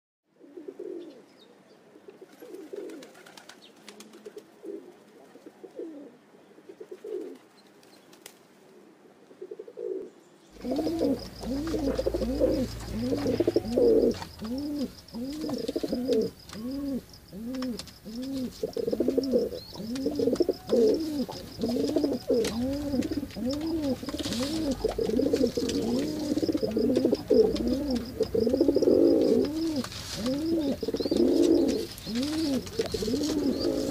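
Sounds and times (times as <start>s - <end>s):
pigeons cooing: 0.4s - 1.3s, 2.1s - 7.5s, 8.7s - 33.9s.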